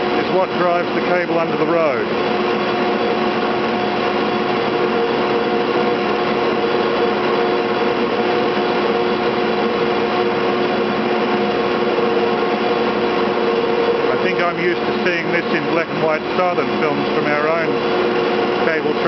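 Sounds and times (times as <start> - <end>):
winding machinery humming: 0.0 - 19.0.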